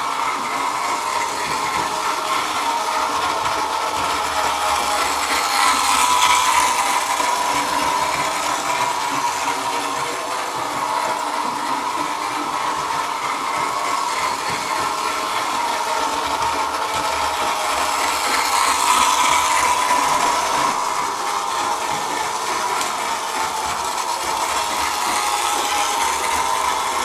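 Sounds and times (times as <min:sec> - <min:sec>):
model train motor whirring: 0:00.0 - 0:27.0.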